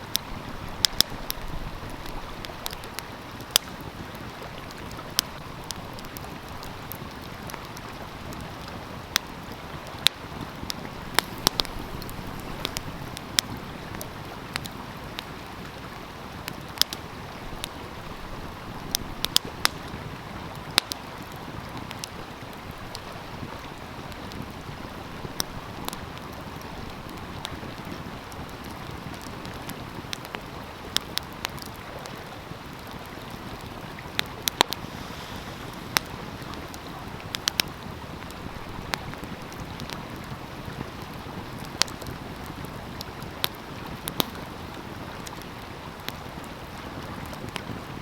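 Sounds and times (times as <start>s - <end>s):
flowing stream: 0.0s - 48.0s
wood fire crackling and popping: 0.0s - 48.0s.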